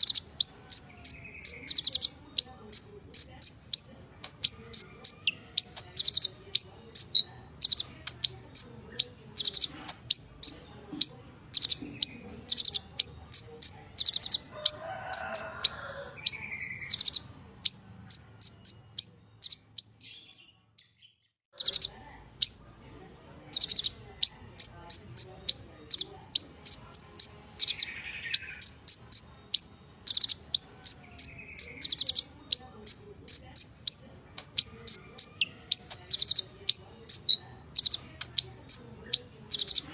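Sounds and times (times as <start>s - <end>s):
bird chirping and trilling: 0.0s - 22.8s, 23.5s - 39.9s.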